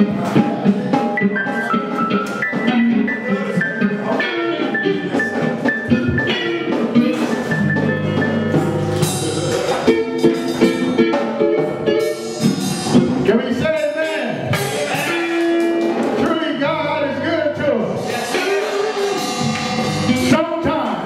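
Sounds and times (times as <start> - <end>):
instrumental band music: 0.0 - 21.0.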